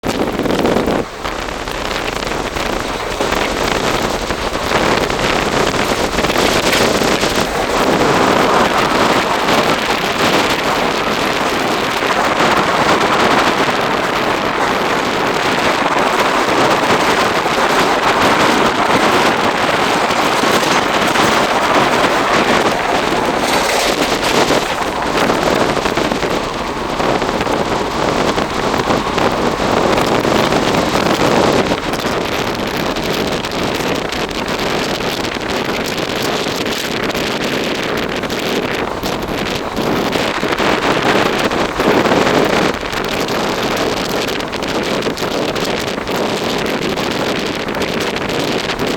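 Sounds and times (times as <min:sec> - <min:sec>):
dense rattle: 0:00.0 - 0:48.9
train wind rush: 0:00.0 - 0:48.9
wheels running on rails: 0:00.0 - 0:48.9.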